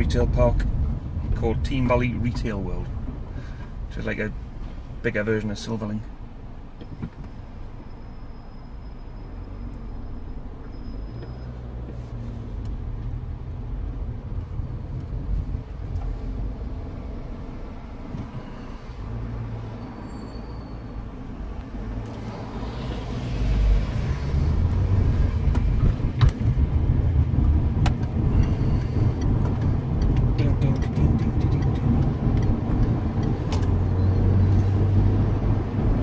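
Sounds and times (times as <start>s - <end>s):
car interior road rumble: 0.0s - 36.0s.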